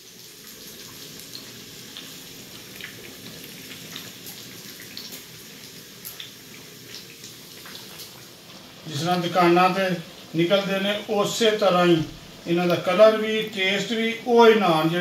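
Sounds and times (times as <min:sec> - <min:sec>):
oil sizzling in a frying pan: 0:00.0 - 0:15.0.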